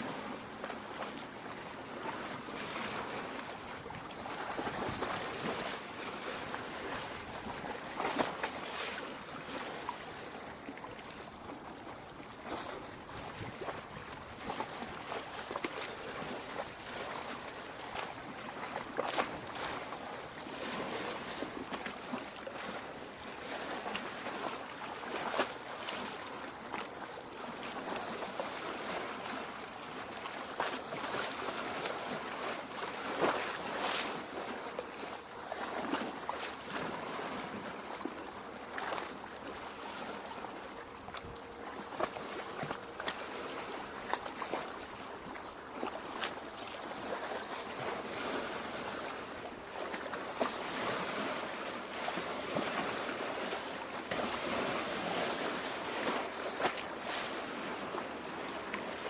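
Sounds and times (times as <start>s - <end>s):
lake waves lapping at shore: 0.0s - 59.0s.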